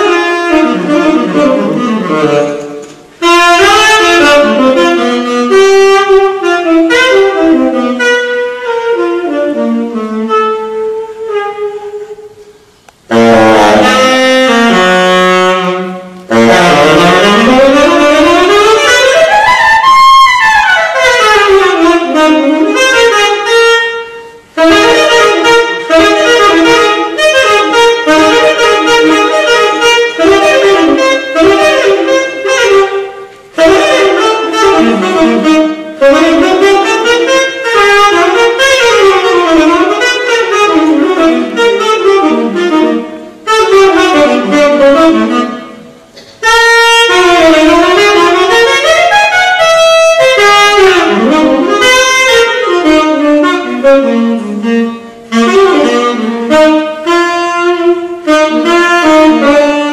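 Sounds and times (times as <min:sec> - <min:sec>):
tenor saxophone jazz: 0:00.0 - 0:59.9.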